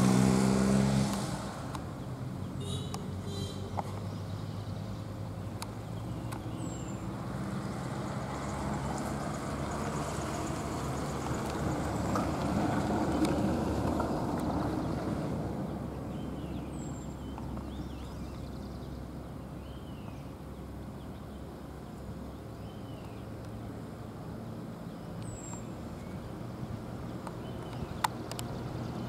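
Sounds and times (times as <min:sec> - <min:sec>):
bus engine pulling away: 0:00.0 - 0:29.0
truck engine and tyre noise: 0:00.0 - 0:29.0.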